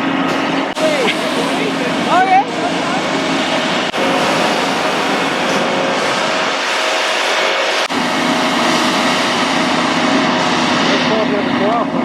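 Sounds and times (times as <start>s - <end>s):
loud vehicle engine running: 0.0s - 12.0s.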